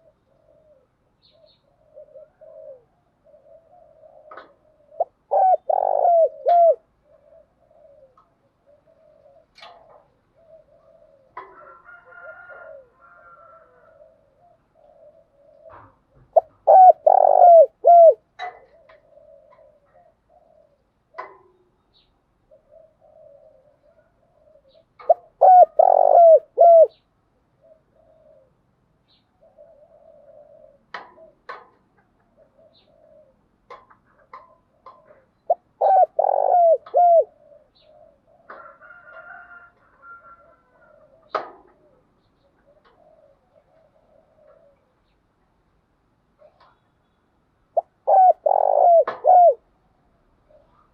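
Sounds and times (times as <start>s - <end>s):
dove cooing: 0.0s - 45.2s, 47.7s - 50.9s.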